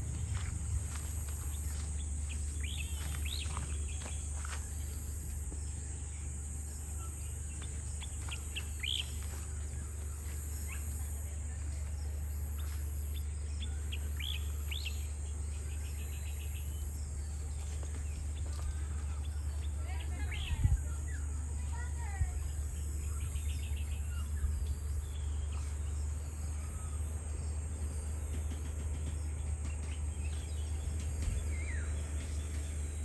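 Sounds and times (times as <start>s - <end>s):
birds chirping: 0.0s - 33.0s
high insect drone: 0.0s - 33.0s
steady low hum: 0.0s - 33.0s.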